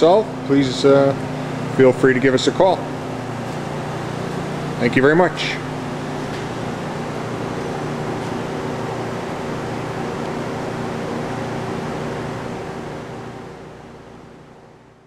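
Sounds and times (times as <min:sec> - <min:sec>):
lathe humming and hissing: 0:00.0 - 0:13.6.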